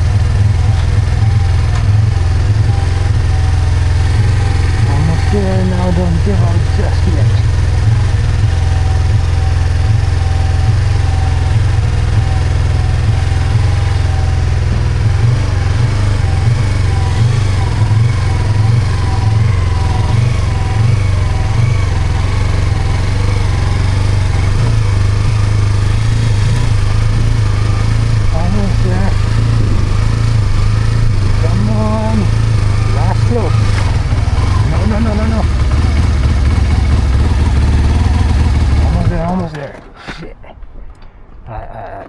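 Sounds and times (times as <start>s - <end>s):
motorcycle engine running: 0.0s - 40.2s.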